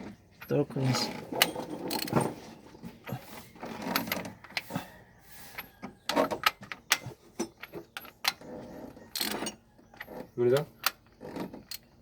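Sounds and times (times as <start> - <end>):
metal tools clicking on engine parts: 0.0 - 4.8, 5.5 - 12.0.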